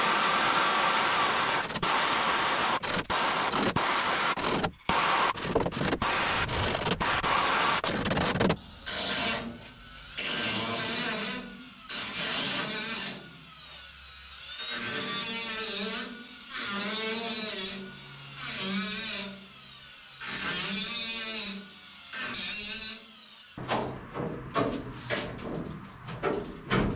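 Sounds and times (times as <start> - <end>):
power tool cutting sheet metal: 0.0 - 23.7.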